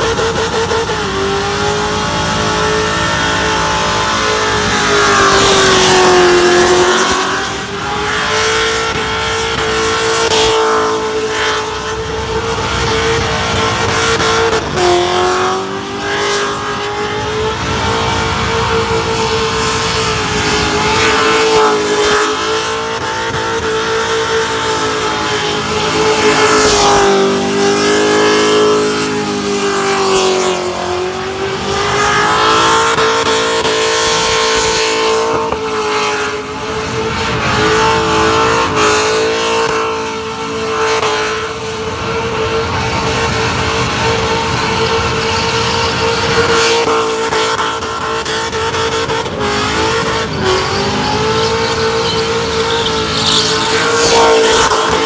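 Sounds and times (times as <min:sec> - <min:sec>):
car engine revving high: 0:00.0 - 0:55.0.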